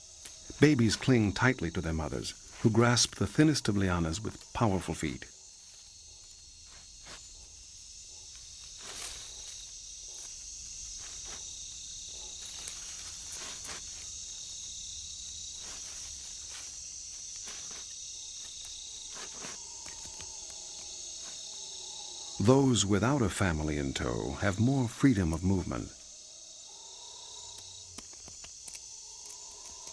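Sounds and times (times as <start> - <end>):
chorus of night insects: 0.0 - 29.9.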